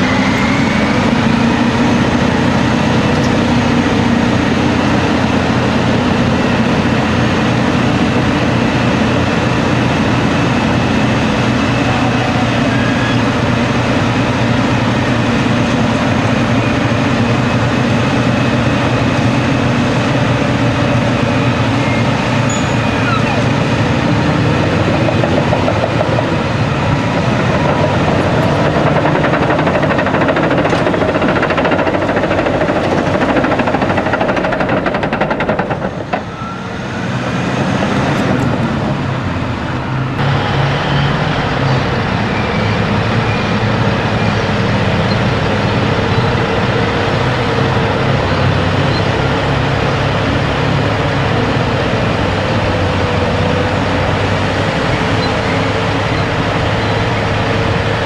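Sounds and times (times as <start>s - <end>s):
heavy diesel engines under load: 0.0s - 58.0s.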